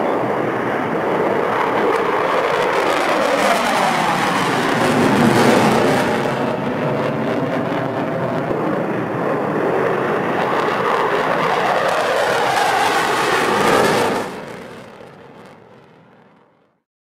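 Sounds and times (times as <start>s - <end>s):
fighter jet taking off: 0.0s - 16.6s.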